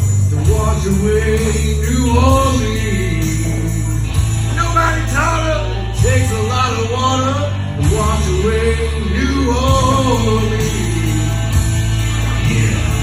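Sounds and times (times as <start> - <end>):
rock song: 0.0 - 13.0.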